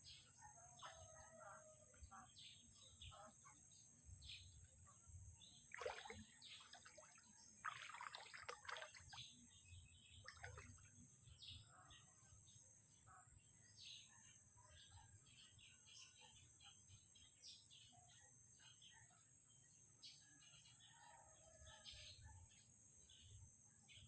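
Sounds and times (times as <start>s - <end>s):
faint bird chirping: 0.0s - 24.0s.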